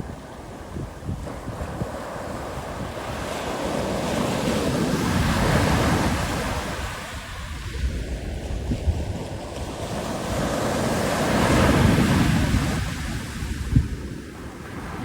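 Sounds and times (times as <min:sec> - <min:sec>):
sea waves on a beach: 0:00.0 - 0:15.0
wind buffeting microphone: 0:00.0 - 0:15.0.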